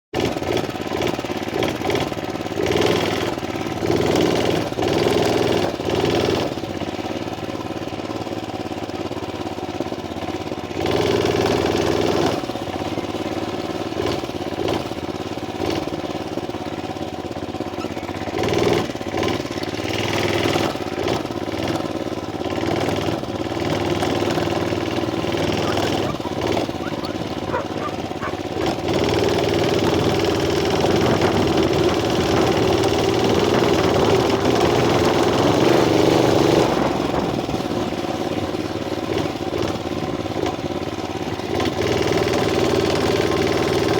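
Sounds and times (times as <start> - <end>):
small engine revving: 0.2 - 43.9.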